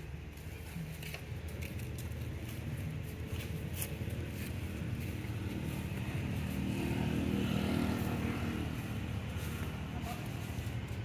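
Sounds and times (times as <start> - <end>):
vehicle engine passing by: 1.7 - 11.0.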